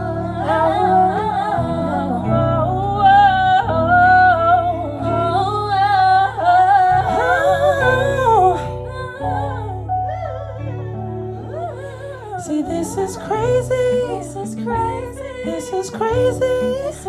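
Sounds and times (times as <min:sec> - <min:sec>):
bass: 0:00.0 - 0:17.0.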